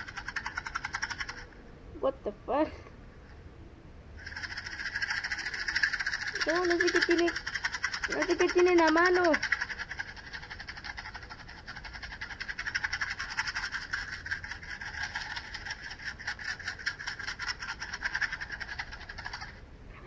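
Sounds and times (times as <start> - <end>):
matchbox rattling: 0.0 - 1.5, 4.2 - 19.6.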